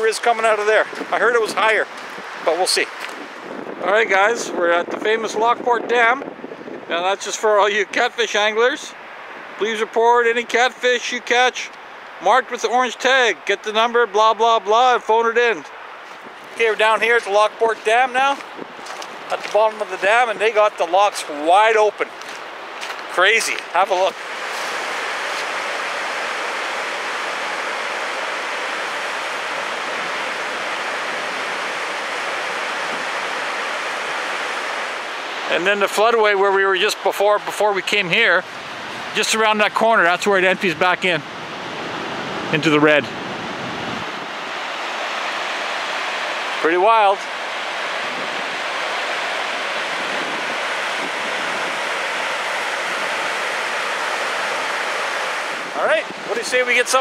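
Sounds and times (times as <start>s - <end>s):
water rushing through dam gates: 0.0s - 57.0s.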